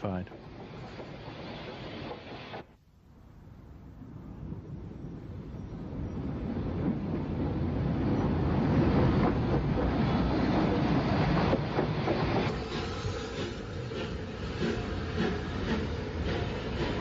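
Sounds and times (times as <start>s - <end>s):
steam train passing: 0.0s - 2.8s, 3.4s - 17.0s.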